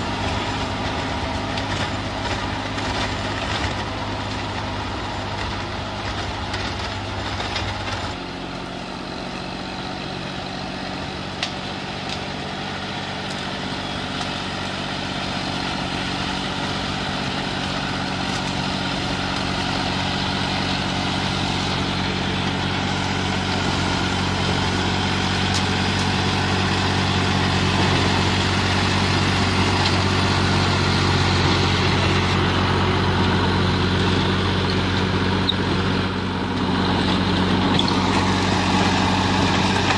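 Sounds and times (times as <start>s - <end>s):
rotary tiller churning soil: 0.0s - 39.9s
tractor diesel engine under load: 0.0s - 39.9s.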